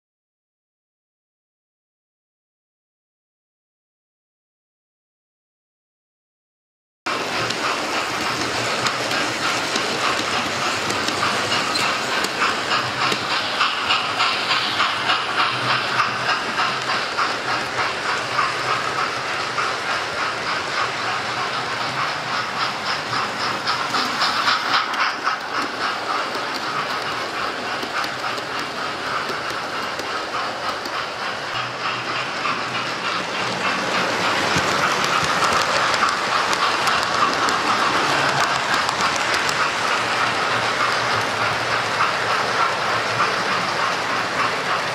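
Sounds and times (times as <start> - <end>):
model train wheels rattling on rails: 7.1 - 44.9.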